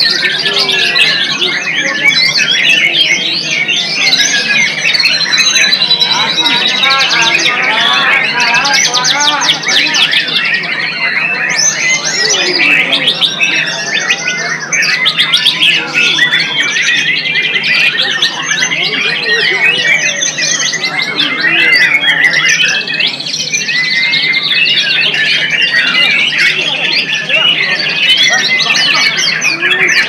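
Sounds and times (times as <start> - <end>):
bird singing whistles and trills: 0.0 - 30.0
other songbirds: 0.0 - 30.0.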